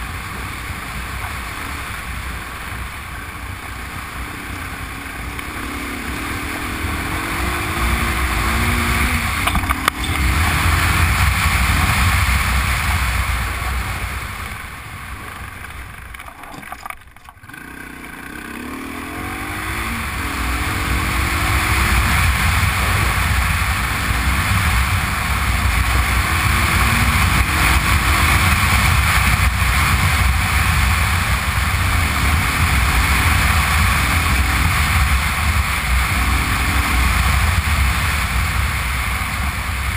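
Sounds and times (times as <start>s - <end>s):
motorcycle engine: 0.0s - 39.9s
wind noise on microphone: 3.0s - 17.2s, 19.0s - 39.9s.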